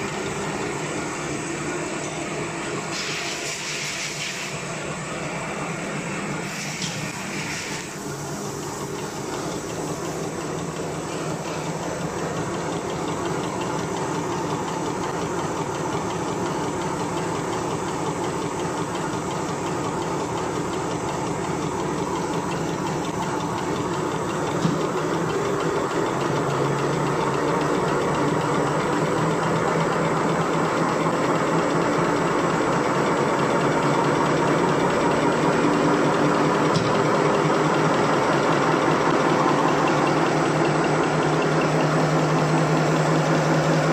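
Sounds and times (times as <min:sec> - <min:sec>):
machine humming and rattling: 0:00.0 - 0:43.9.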